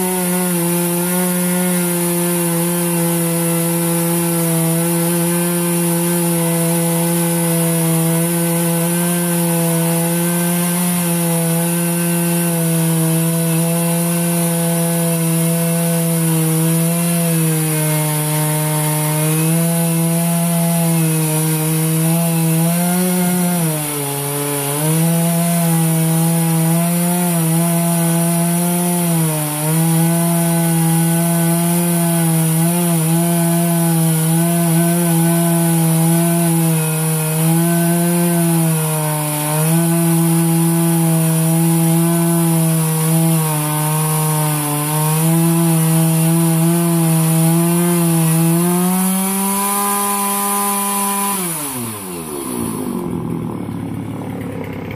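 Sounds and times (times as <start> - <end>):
chainsaw cutting logs: 0.0 - 54.9.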